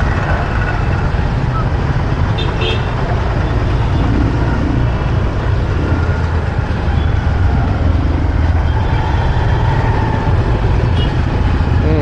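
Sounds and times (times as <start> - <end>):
motorbike engine rumble: 0.0 - 12.0
road noise: 0.0 - 12.0.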